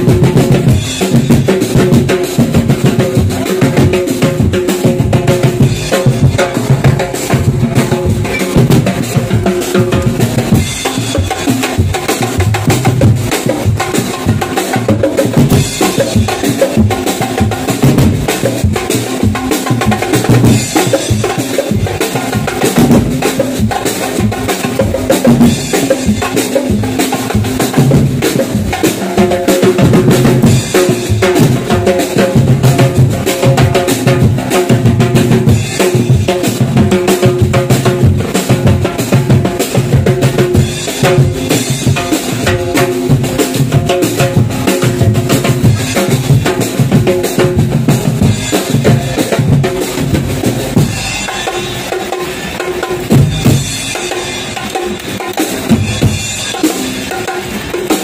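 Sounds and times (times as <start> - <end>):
band music: 0.0 - 58.0
bass drum and snare beating: 0.0 - 58.0.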